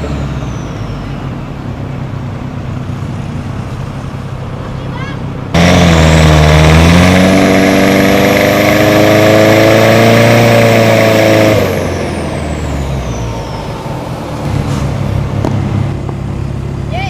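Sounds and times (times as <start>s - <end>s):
diesel engine at full throttle: 0.0s - 17.0s.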